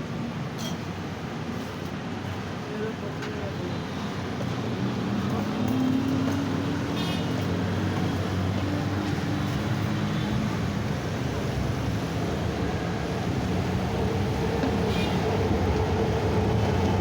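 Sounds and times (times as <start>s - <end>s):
steady traffic hum: 0.0s - 17.0s.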